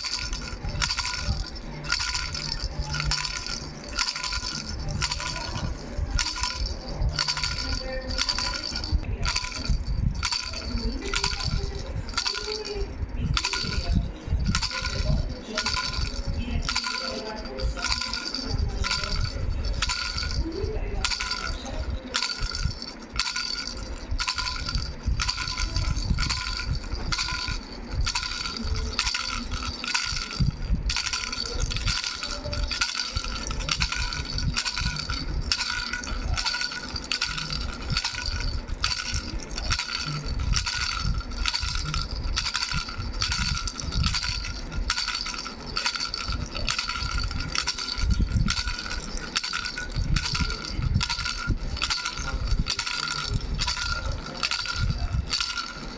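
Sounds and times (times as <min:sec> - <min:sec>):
baby rattle bells jingling: 0:00.0 - 0:55.9.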